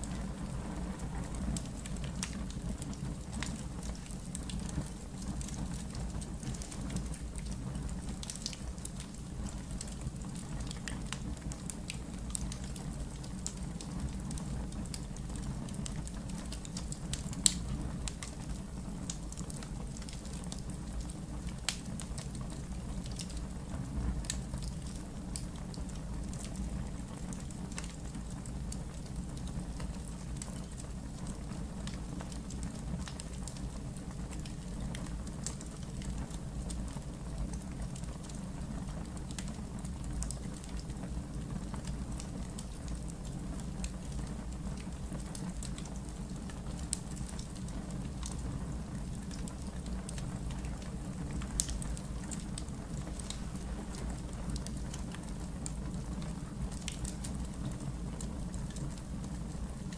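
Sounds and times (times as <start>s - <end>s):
fire burning with crackles and pops: 0.0s - 59.9s.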